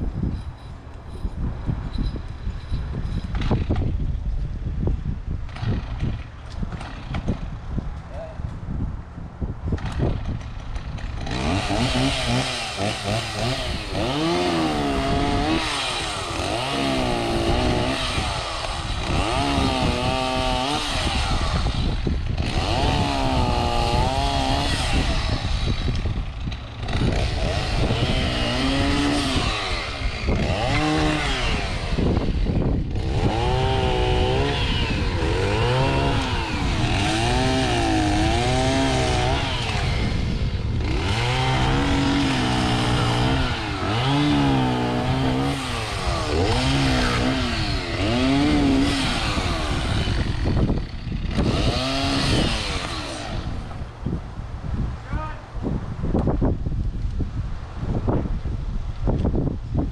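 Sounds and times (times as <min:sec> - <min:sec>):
chainsaw cutting wood: 0:02.1 - 0:04.2, 0:05.4 - 0:07.6, 0:09.7 - 0:54.2.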